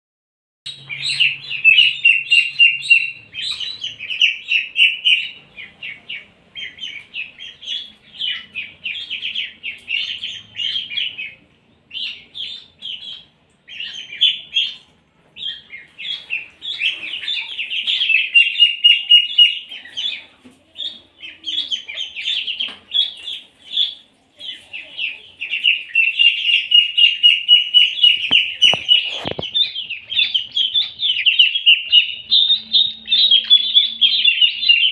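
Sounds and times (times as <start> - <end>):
ducklings peeping: 0.7 - 34.9.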